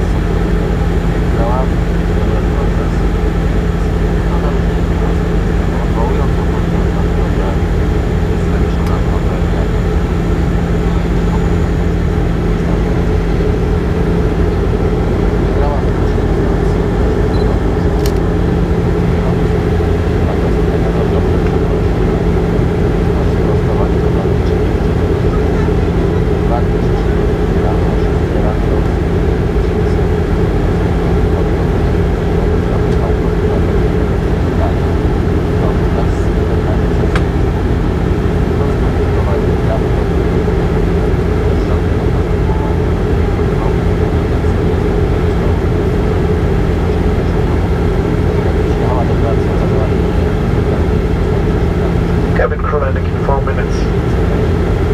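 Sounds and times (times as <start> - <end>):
propeller tone: 0.0 - 54.9
turboprop cabin drone: 0.0 - 54.9.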